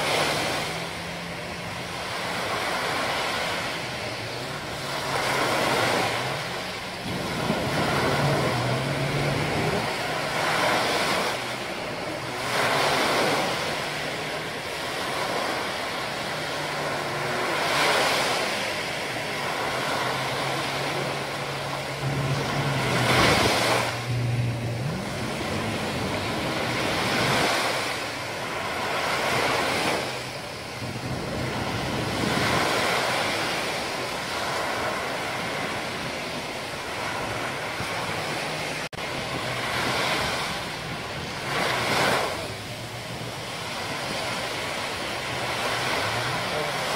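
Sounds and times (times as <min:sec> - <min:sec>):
small waves breaking on beach: 0:00.0 - 0:46.9.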